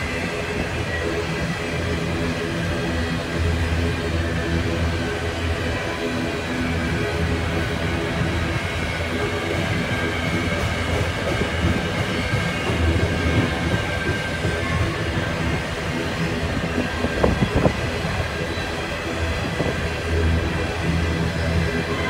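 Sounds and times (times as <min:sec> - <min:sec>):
steel wheels rumbling on rail: 0:00.0 - 0:22.0.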